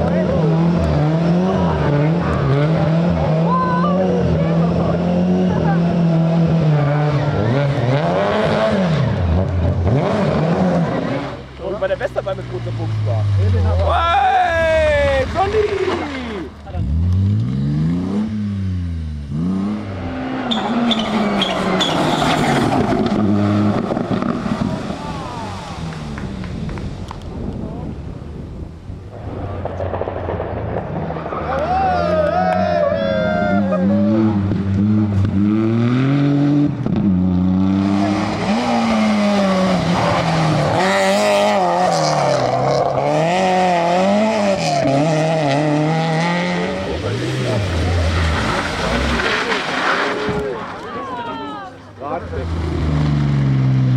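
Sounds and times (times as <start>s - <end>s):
rally car engine passing: 0.0s - 28.6s, 29.2s - 53.9s.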